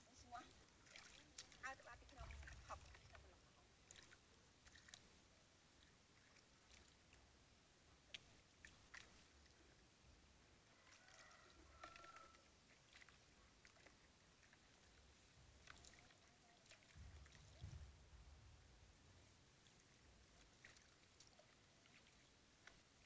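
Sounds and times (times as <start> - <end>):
splashing in muddy water: 0.0 - 7.2, 8.1 - 9.6, 10.7 - 18.0, 19.6 - 23.0.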